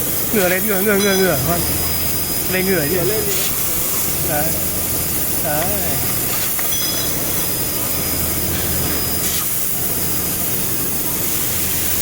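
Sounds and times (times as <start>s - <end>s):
machine hiss: 0.0s - 12.0s.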